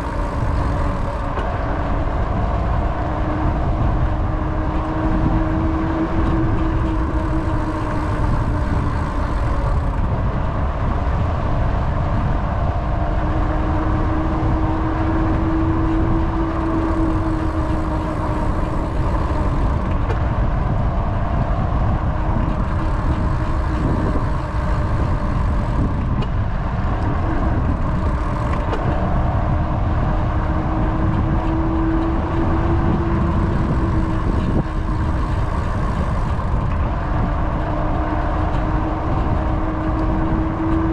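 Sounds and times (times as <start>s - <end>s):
steady hum: 0.0s - 40.9s
tyres rolling on asphalt: 0.0s - 40.9s
wind buffeting microphone: 0.0s - 40.9s.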